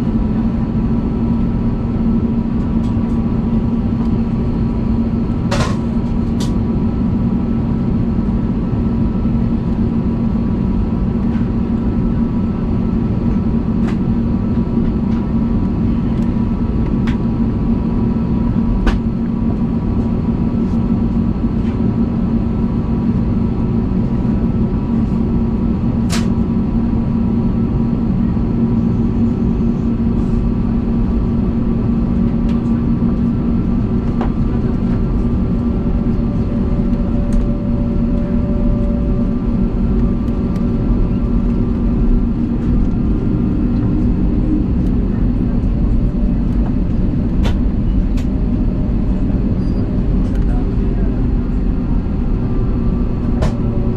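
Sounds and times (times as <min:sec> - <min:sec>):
aircraft cabin rumble and hum: 0:00.0 - 0:53.9.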